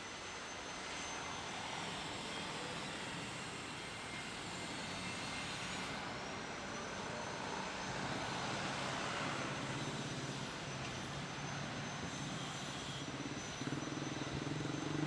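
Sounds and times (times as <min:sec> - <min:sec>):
thin high whine: 0:00.0 - 0:15.0
jet engines running: 0:00.1 - 0:15.0.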